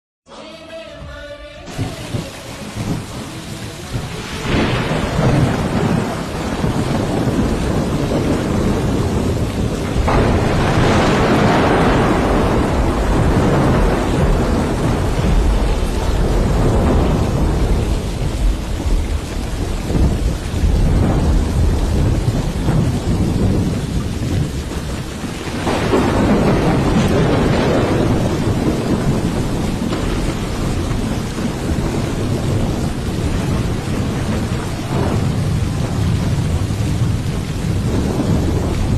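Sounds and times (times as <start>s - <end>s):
heavy rain pouring: 1.4s - 38.9s
deep steady rumble: 1.8s - 38.9s.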